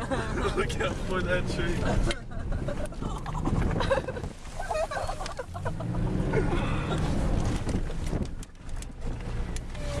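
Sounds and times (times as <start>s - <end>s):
car engine running: 0.0s - 10.0s
wind buffeting microphone: 1.8s - 10.0s.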